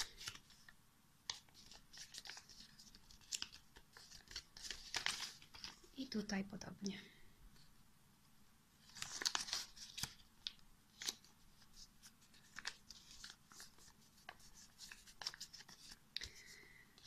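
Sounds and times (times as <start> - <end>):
paper crackling as it is folded: 0.0 - 6.2, 8.8 - 17.0.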